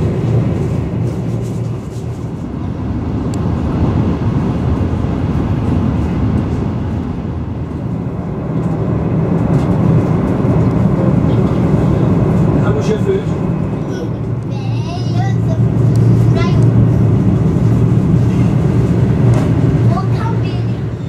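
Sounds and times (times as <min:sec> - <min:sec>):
train rumbling at speed: 0:00.0 - 0:21.0.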